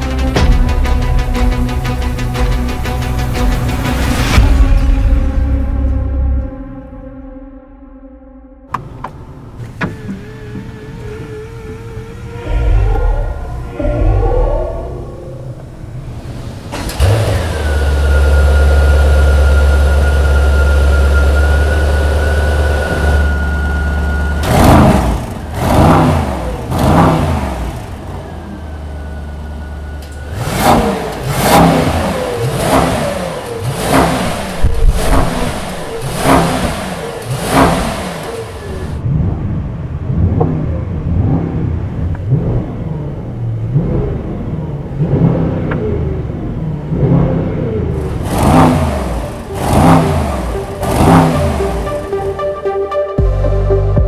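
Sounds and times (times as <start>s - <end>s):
car engine starting and idling: 0.0s - 54.0s
car engine revving: 8.7s - 54.0s.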